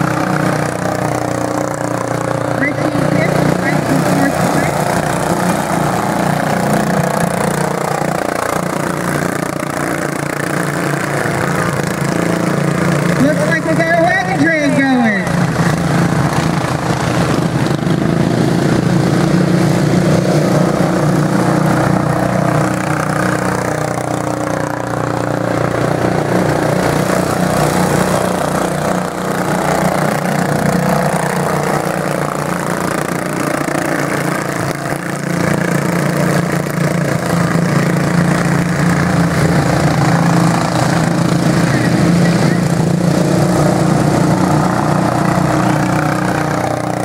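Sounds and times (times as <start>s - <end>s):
small engines racing: 0.0s - 47.0s.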